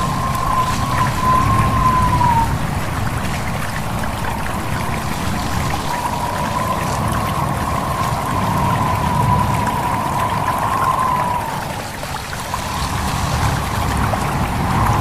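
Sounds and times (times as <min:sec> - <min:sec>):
high whistling tone: 0:00.0 - 0:02.6, 0:04.2 - 0:13.7
stream trickling: 0:00.0 - 0:15.0.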